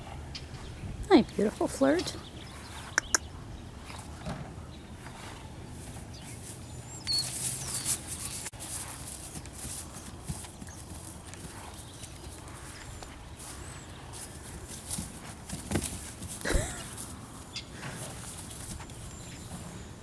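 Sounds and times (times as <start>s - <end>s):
hooves stepping on grass: 0.4s - 20.0s.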